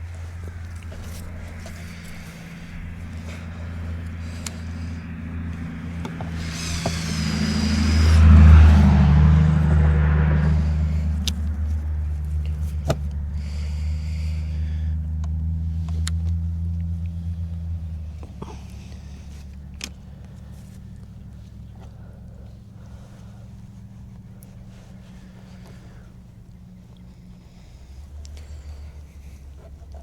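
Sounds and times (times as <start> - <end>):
vehicle engine passing by: 0.0 - 30.0.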